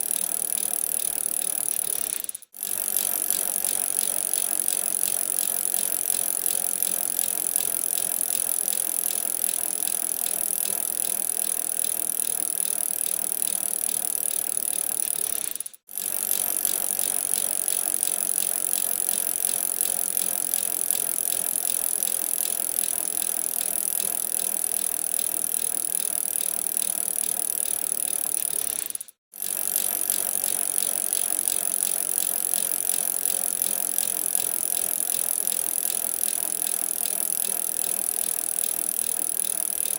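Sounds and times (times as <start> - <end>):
bicycle frame rattling: 0.0 - 39.9.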